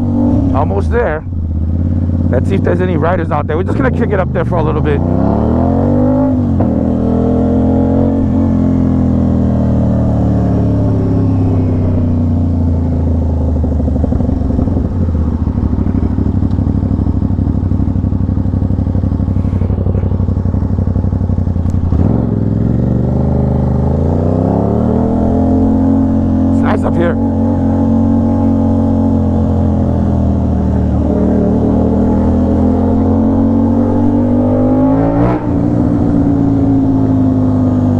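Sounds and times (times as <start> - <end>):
motorcycle engine revving through gears: 0.0 - 37.9.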